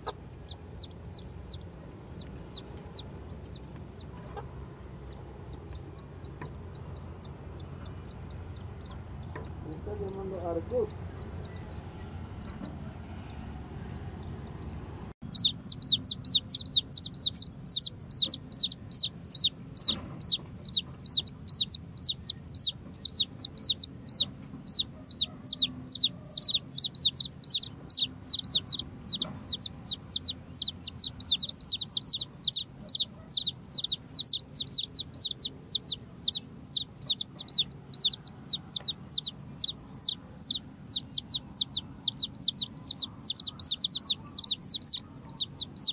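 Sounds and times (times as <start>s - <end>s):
chicks peeping: 0.0s - 45.9s
low steady background noise: 0.0s - 45.9s.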